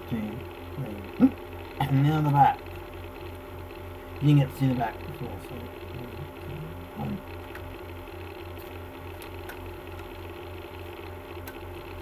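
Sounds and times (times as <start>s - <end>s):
low pulsing room hum: 0.0s - 12.0s.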